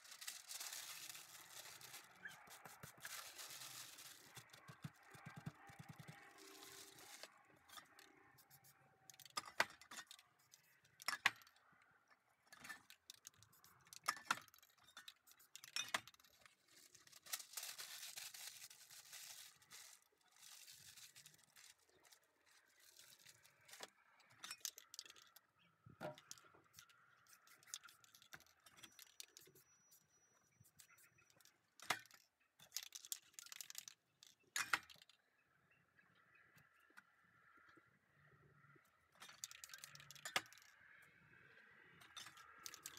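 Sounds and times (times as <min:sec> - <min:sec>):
paint cans clicking and knocking: 0:00.0 - 0:17.0, 0:19.5 - 0:29.6, 0:30.6 - 0:35.2, 0:39.2 - 0:41.0, 0:41.9 - 0:42.9.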